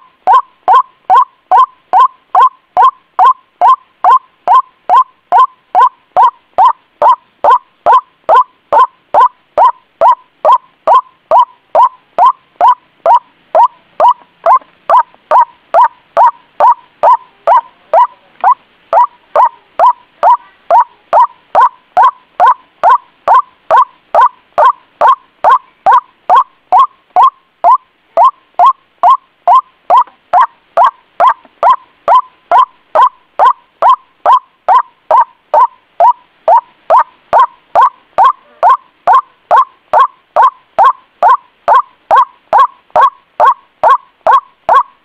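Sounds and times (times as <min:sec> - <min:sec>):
waterhen calling: 0:00.0 - 0:45.0.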